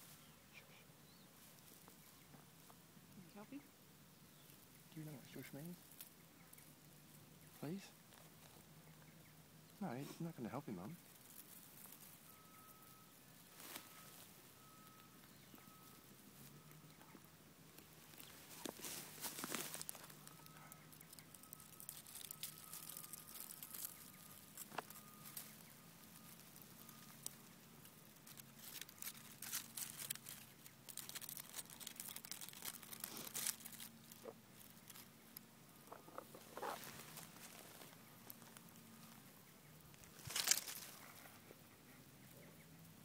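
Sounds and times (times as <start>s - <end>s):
low steady hum: 0.0s - 43.0s
dry leaves and grass rustling: 1.0s - 43.0s.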